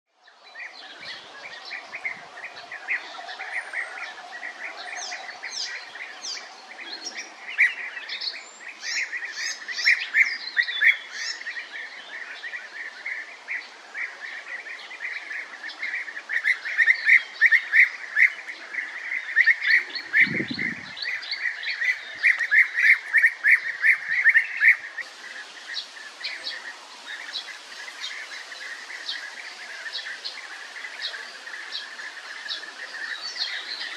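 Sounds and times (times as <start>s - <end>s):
birds calling: 0.2s - 33.9s.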